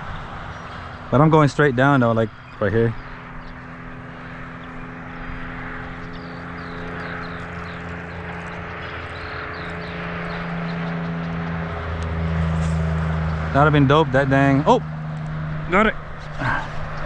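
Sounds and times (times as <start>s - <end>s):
engine passing by: 0.0s - 17.0s.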